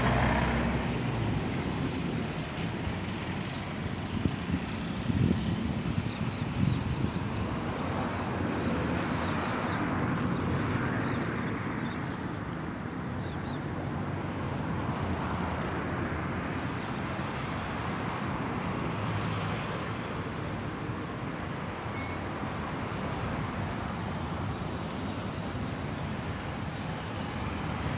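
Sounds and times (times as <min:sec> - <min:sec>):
road traffic noise: 0:00.0 - 0:27.9
vehicles passing: 0:00.0 - 0:27.9.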